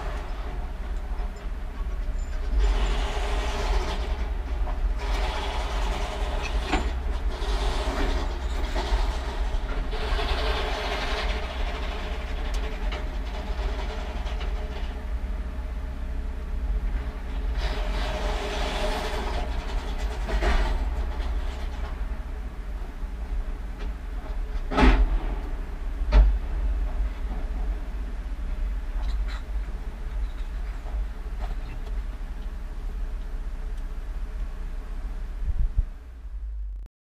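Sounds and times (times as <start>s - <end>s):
diesel engine rumbling: 0.0s - 36.9s.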